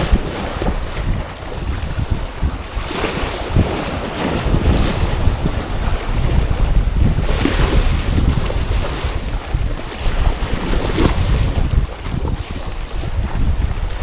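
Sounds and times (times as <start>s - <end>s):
strong wind buffeting microphone: 0.0s - 14.0s
waves: 0.0s - 14.0s.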